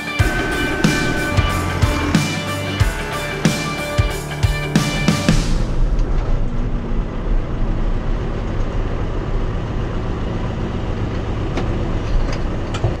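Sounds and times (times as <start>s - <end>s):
tractor engine humming: 0.0s - 13.0s.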